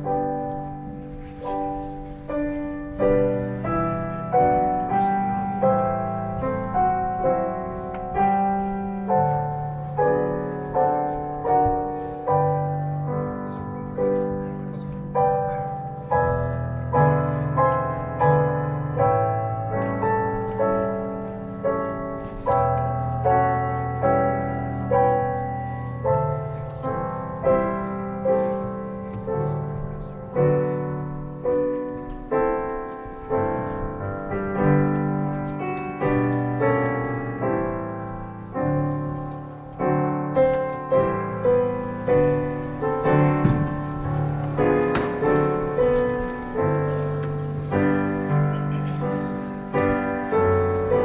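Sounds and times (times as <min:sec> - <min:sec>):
slow quiet piano piece: 0:00.0 - 0:51.0.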